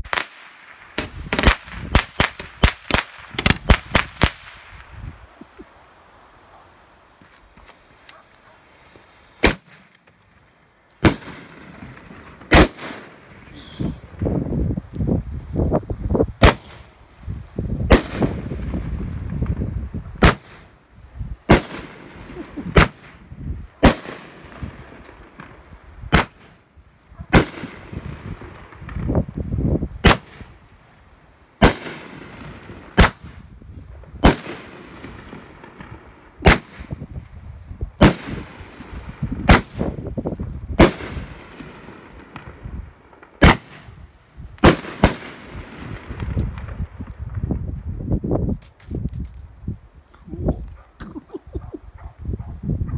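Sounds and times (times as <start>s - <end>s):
fireworks bangs: 0.0s - 5.8s, 6.5s - 20.7s, 21.4s - 26.6s, 27.3s - 30.6s, 31.6s - 49.3s.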